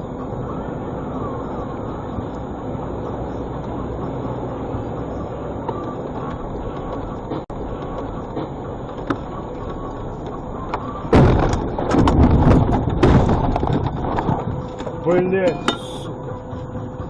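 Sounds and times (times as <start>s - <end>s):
car engine: 0.0s - 17.0s
road noise: 0.0s - 17.0s.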